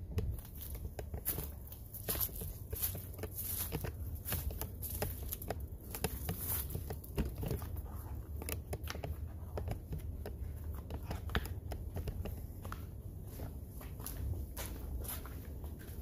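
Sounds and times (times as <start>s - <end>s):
steady low rumble: 0.0s - 16.0s
footsteps on concrete: 0.1s - 16.0s.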